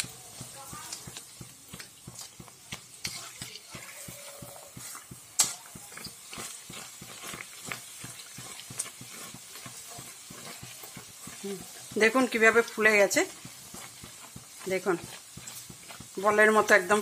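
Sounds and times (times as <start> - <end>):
dough sizzling in hot oil: 0.0 - 17.0
metal spatula scraping a pan: 0.0 - 17.0.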